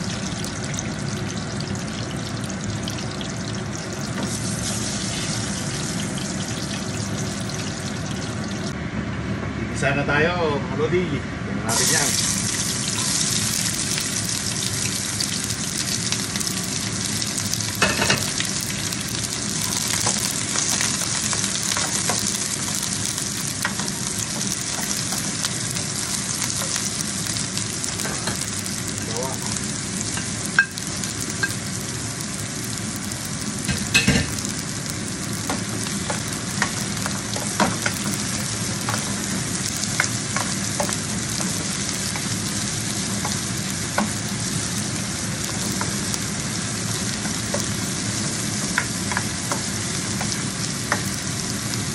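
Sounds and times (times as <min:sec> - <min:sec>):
onion sizzling in hot oil: 0:00.0 - 0:08.8, 0:11.7 - 0:51.9.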